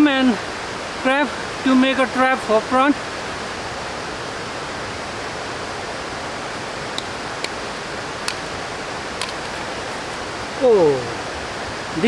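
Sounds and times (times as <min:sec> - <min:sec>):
running water rushing: 0:00.3 - 0:12.0.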